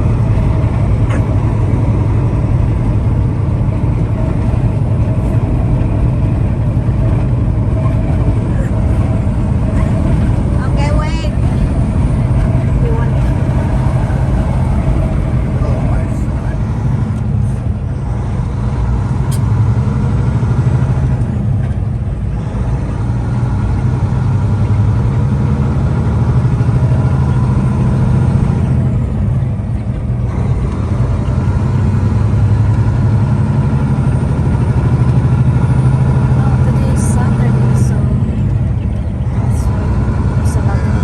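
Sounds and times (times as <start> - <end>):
road noise: 0.0 - 41.0
truck engine droning: 0.0 - 41.0.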